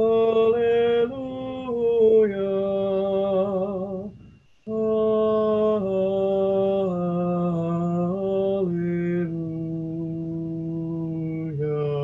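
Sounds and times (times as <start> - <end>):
slow meditative chant singing: 0.0 - 12.0.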